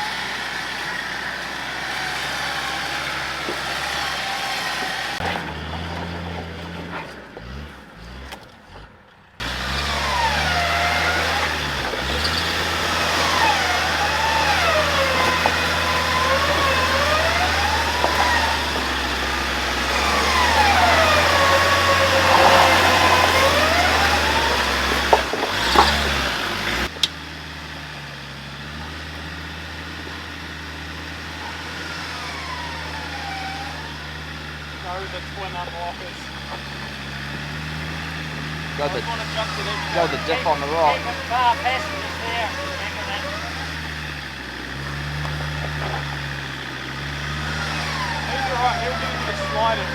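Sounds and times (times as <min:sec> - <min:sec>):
off-road engine running: 0:00.0 - 0:49.9.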